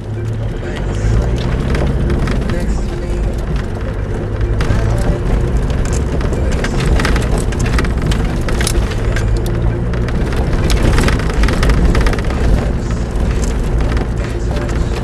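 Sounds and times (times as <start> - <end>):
stones crackling under wheels: 0.0 - 15.0
vehicle engine and tyres rumbling: 0.0 - 15.0.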